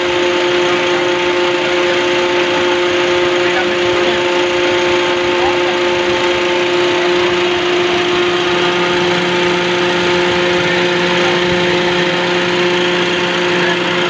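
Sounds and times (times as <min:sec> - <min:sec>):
car engine idling: 0:00.0 - 0:14.0
radiator fan whirring: 0:00.0 - 0:14.0.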